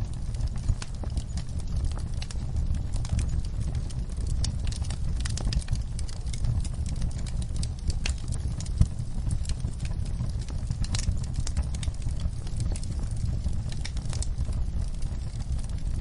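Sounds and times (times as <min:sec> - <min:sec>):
fire pops and snaps: 0:00.0 - 0:16.0
low fire rumble: 0:00.0 - 0:16.0
wood fire crackling: 0:00.0 - 0:16.0.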